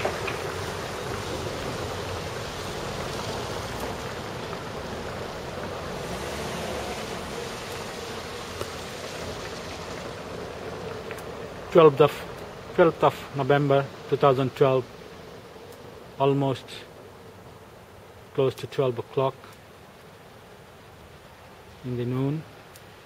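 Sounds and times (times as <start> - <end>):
street background hiss: 0.0 - 23.0.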